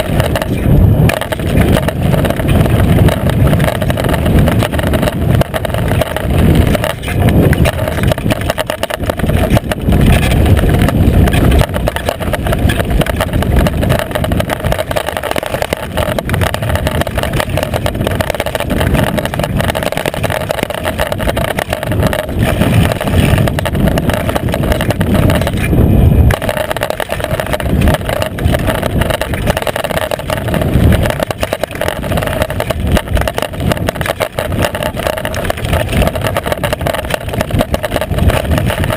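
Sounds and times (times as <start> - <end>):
bike tyre rumbling on gravel: 0.0 - 38.9
wind on microphone: 0.0 - 38.9.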